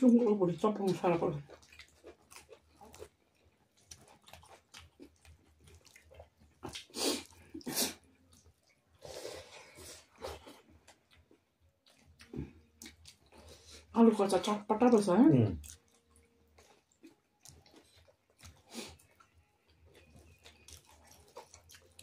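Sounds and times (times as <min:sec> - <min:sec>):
chewing and lip smacks: 0:00.1 - 0:09.0, 0:09.7 - 0:13.8, 0:15.6 - 0:22.0.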